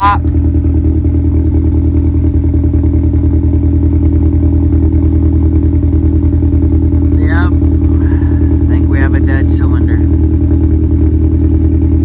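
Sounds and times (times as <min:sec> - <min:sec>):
engine idling rough: 0:00.0 - 0:12.0.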